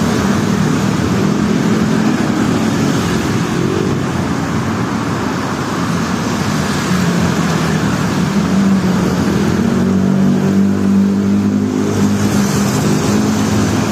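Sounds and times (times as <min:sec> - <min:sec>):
rain: 0:00.0 - 0:13.9.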